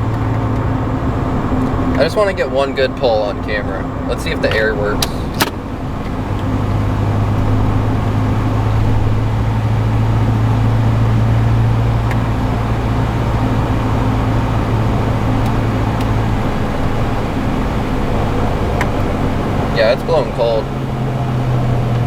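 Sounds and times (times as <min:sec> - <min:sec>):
air conditioning: 0:00.0 - 0:22.0
car engine and road noise: 0:00.0 - 0:22.0.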